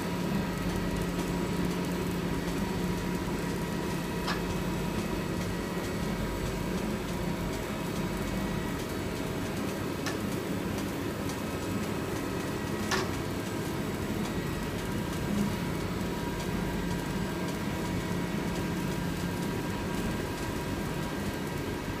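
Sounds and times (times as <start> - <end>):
machine hum with faint whine: 0.0 - 22.0.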